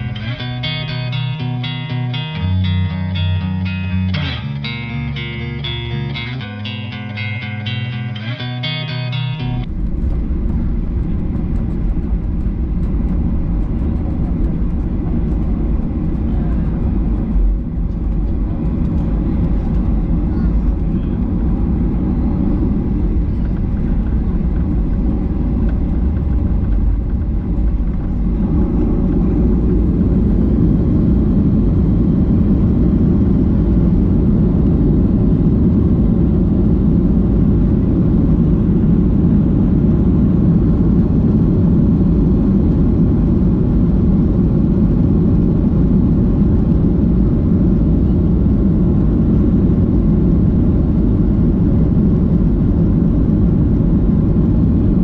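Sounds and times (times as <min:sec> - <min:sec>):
airplane engine rumble: 0:00.0 - 0:55.0
cabin air rush: 0:09.6 - 0:55.0.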